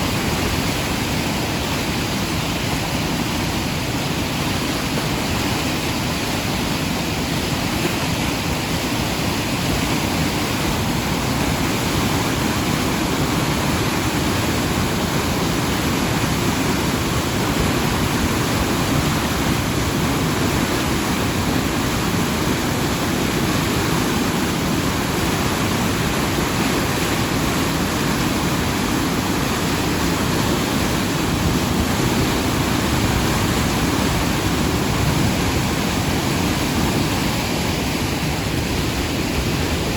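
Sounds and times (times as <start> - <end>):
flooded river rushing: 0.0 - 39.9.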